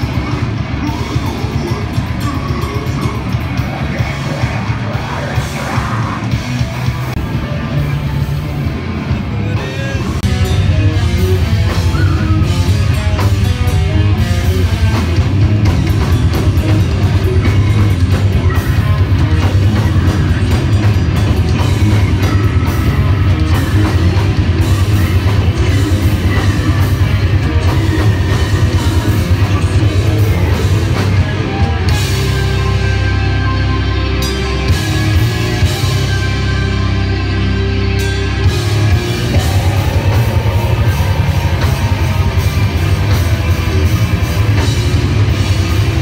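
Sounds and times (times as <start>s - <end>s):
live death metal band: 0.0s - 46.0s.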